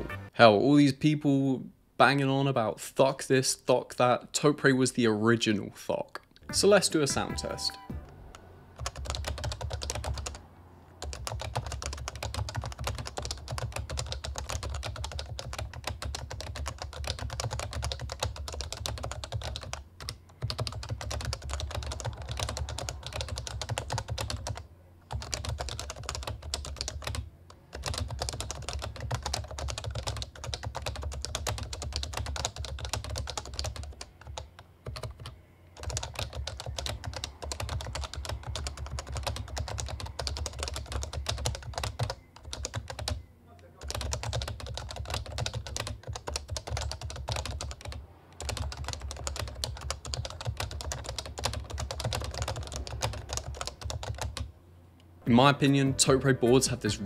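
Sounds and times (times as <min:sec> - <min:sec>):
muted keyboard typing: 0:06.7 - 0:10.4, 0:11.0 - 0:43.2, 0:43.8 - 0:54.5.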